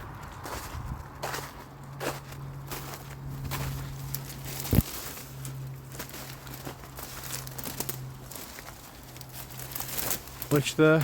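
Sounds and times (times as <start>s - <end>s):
footsteps walking: 0.0s - 10.4s
crackles and ticks underfoot: 0.0s - 11.0s.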